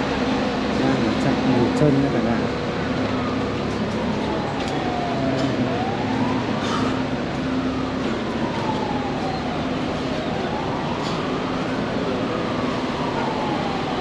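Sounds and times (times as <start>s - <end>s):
siren wailing: 0.1s - 14.0s.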